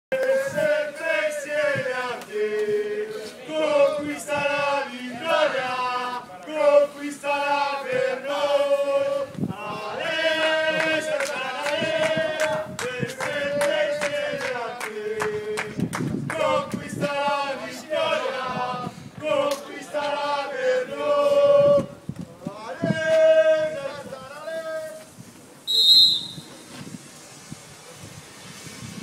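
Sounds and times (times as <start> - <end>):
men chanting in unison: 0.2 - 25.0.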